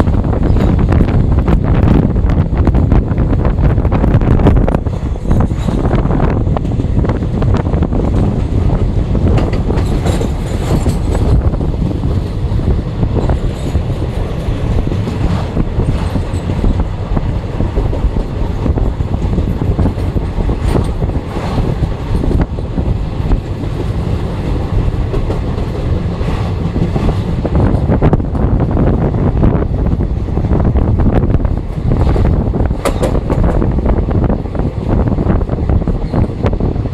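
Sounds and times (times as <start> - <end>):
track clickety-clack: 0.0 - 36.9
train wheels rumbling on rails: 0.0 - 36.9.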